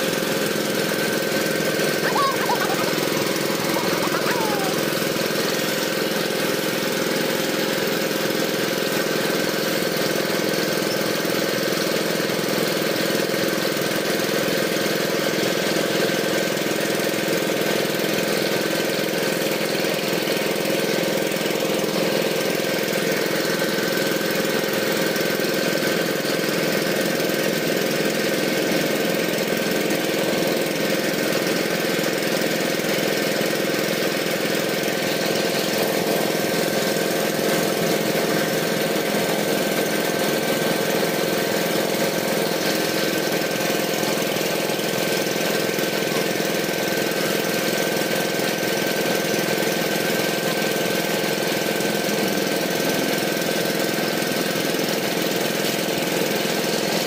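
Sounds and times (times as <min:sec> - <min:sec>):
small engine running steadily: 0:00.0 - 0:57.0.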